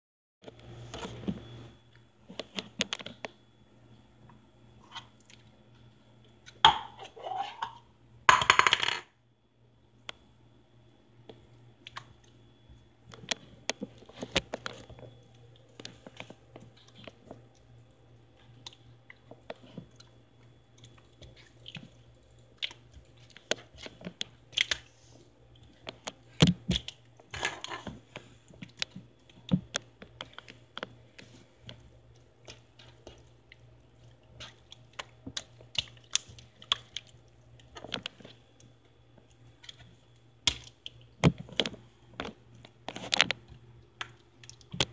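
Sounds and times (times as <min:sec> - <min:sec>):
faint low hum: 0:00.4 - 0:44.9.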